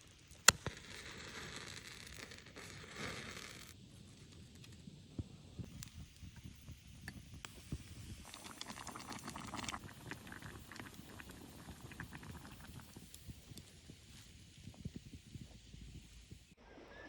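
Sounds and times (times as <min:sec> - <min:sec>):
camp stove crackling and popping: 0:00.0 - 0:16.6.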